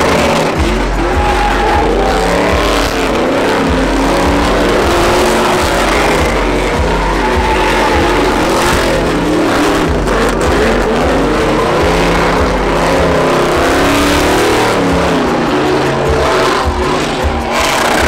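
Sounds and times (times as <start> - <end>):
truck engines revving hard: 0.0 - 18.0
tyres spinning: 0.0 - 18.0.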